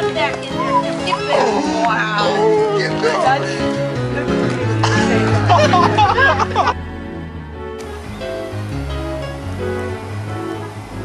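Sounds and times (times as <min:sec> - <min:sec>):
bass line: 0:00.0 - 0:11.0
sustained melody notes: 0:00.0 - 0:11.0.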